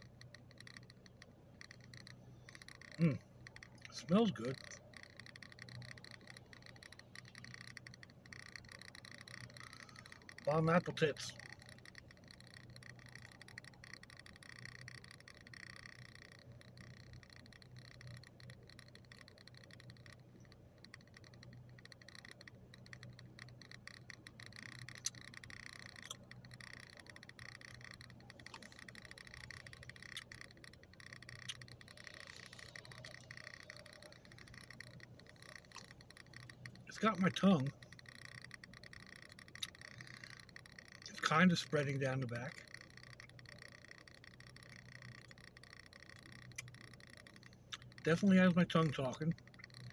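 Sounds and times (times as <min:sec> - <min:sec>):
faint clicks: 0:00.0 - 0:49.9.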